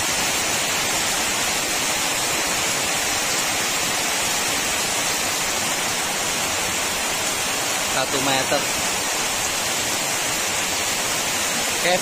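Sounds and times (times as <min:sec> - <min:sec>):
flood water hissing: 0:00.0 - 0:12.0.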